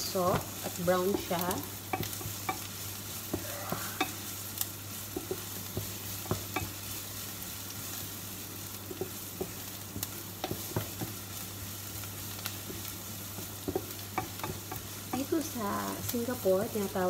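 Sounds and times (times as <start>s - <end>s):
wooden spatula scraping a pan: 0.0s - 16.8s
onion sizzling in a frying pan: 0.0s - 17.0s.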